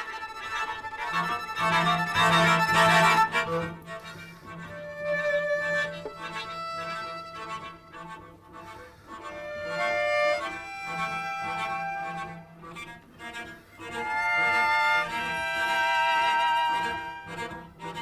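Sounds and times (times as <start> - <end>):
string quintet playing: 0.0 - 18.0.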